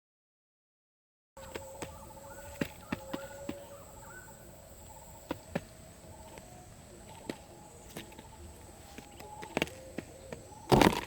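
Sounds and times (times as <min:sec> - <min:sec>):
faint bird calls: 0:01.4 - 0:11.0.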